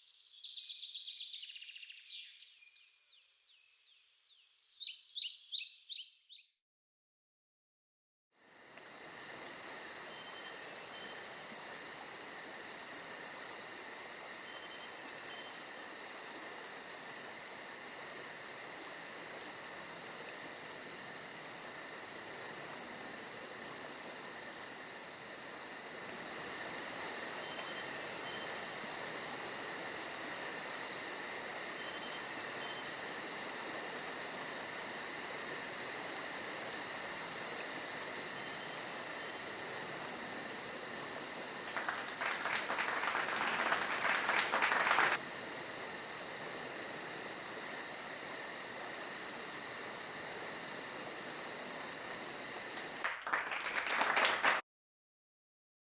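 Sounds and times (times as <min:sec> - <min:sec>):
insect chorus chirping: 0:08.4 - 0:54.3.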